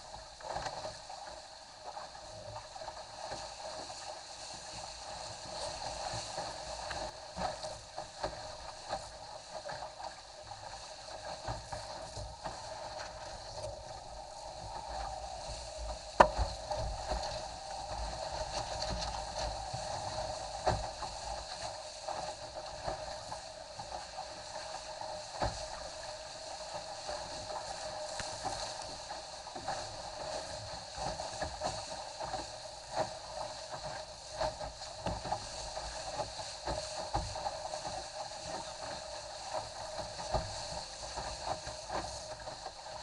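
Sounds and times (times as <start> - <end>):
water rushing past hull: 0.0 - 43.0
hull slapping into waves: 2.0 - 43.0.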